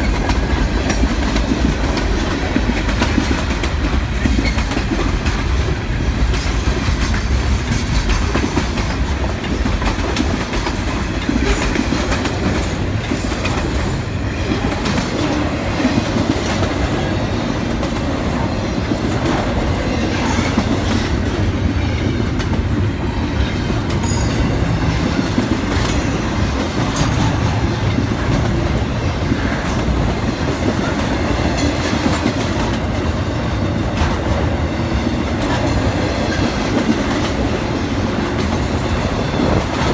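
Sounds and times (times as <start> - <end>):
freight train rumbling by: 0.0 - 39.9.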